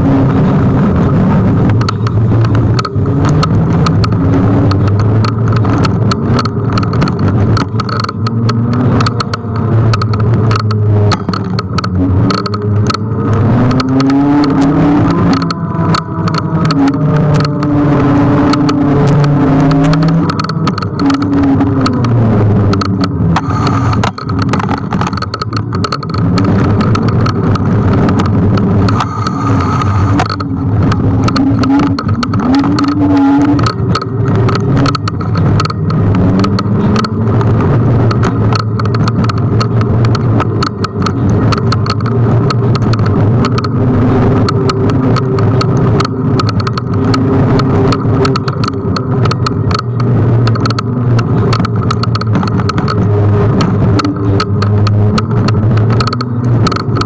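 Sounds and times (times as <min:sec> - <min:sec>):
wheels knocking over road: 0:00.0 - 0:57.0
wind rushing over microphone: 0:00.0 - 0:57.0.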